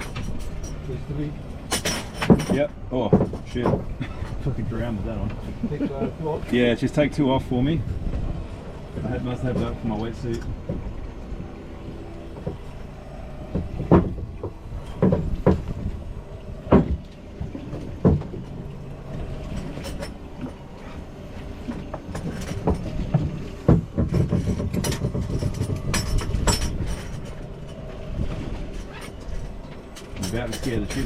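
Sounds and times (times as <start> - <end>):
low rumble: 0.0 - 31.0
dive gear knocking and thumping: 1.7 - 4.7, 7.9 - 31.0.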